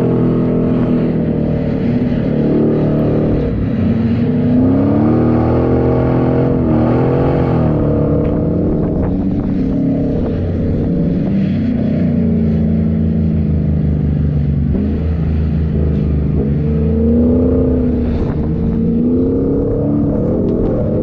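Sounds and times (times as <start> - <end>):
vehicle engine revving under load: 0.0 - 21.0.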